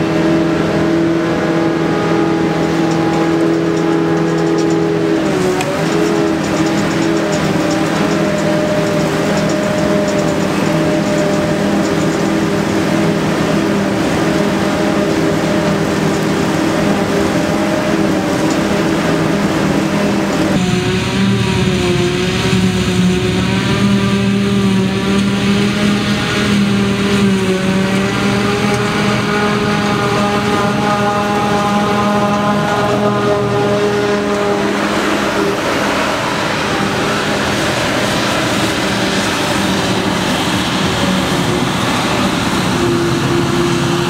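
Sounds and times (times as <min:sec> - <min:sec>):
harvester and tractor droning: 0:00.0 - 0:44.0.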